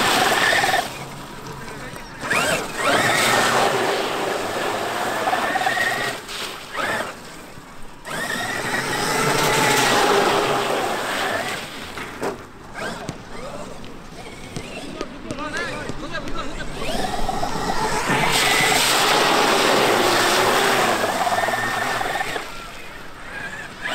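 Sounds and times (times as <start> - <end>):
electric motor whining: 0.0 - 23.9.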